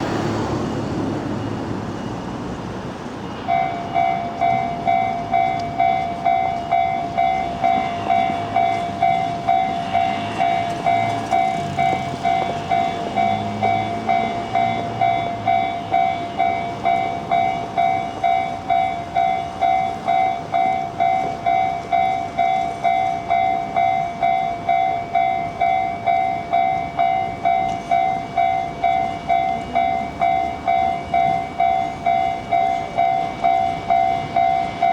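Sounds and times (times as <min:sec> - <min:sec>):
level crossing warning bell: 0:03.2 - 0:34.9.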